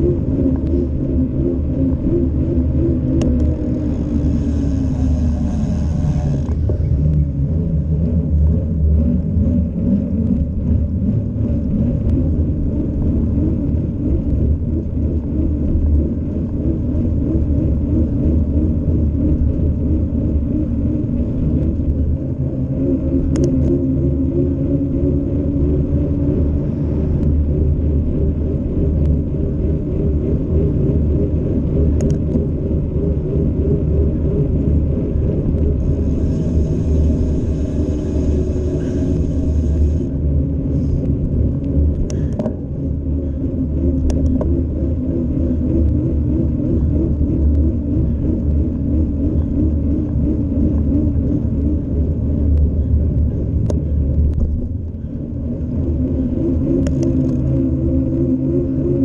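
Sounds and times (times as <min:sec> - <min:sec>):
road rumble: 0:00.0 - 0:59.0
wavering hum: 0:00.0 - 0:59.0
wind buffeting: 0:00.0 - 0:59.0.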